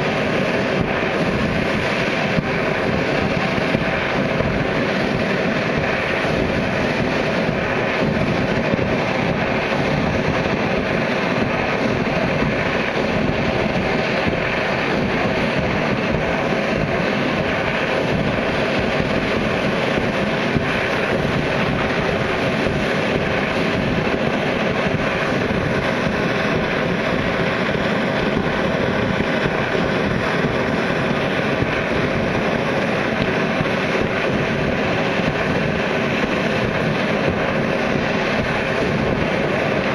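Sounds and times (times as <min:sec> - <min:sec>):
geyser water spraying: 0:00.0 - 0:39.9.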